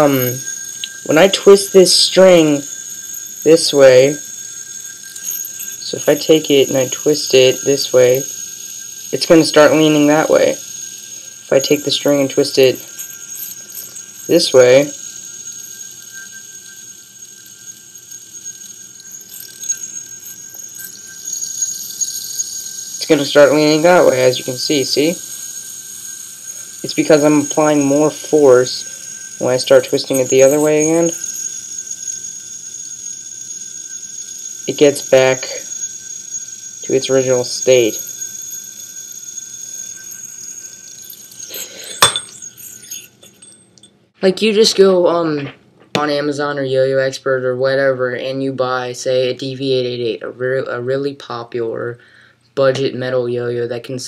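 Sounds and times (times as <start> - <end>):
yoyo spinning whine: 0.0 - 44.9
yo-yo whirring with high ringing: 0.0 - 45.3.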